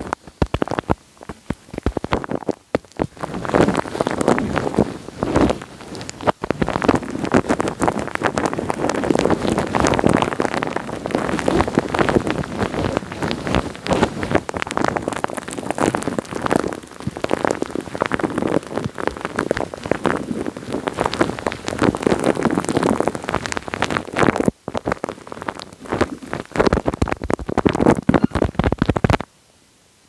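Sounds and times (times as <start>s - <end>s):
wet crackling on microphone: 0.0s - 29.3s.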